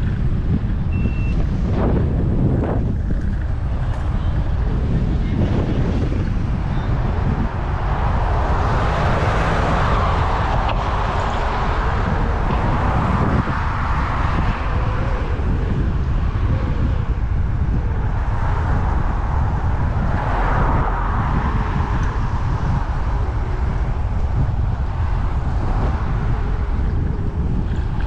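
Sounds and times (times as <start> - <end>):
street traffic: 0.0 - 28.0
wind rush on microphone: 0.0 - 28.0.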